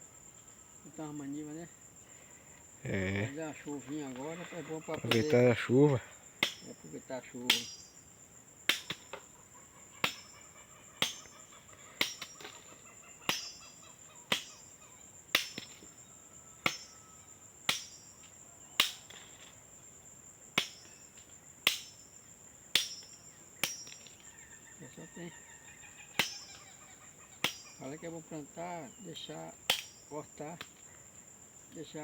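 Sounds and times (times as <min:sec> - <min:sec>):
high insect trill: 0:00.0 - 0:32.0.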